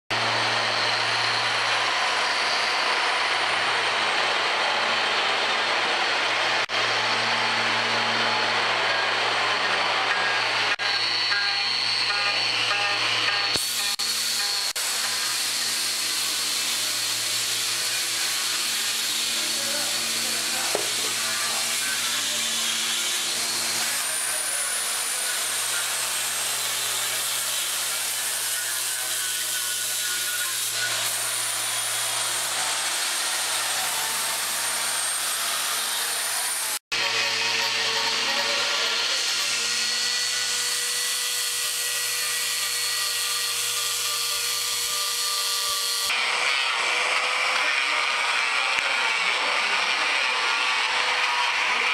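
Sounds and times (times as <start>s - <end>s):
power tool motor whine: 0.1s - 51.9s
grinding and sanding wood: 7.4s - 51.9s.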